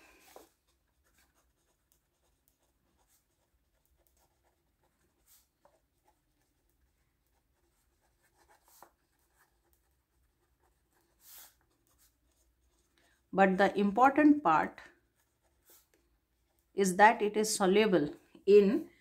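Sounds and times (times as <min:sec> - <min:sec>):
pen scratching on paper: 0:00.2 - 0:13.8, 0:14.9 - 0:16.8.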